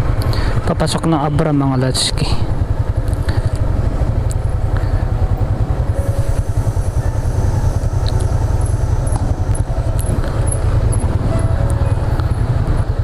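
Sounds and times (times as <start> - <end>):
motorcycle engine running: 0.0 - 13.0
wind buffeting microphone: 2.5 - 13.0.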